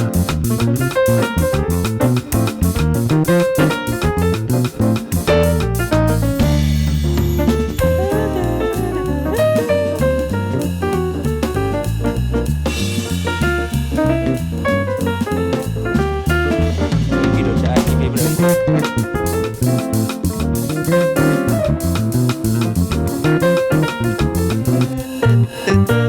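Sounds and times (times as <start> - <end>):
drum kit: 0.0 - 26.0
guitar: 0.0 - 26.0
walking bass line: 0.0 - 26.0.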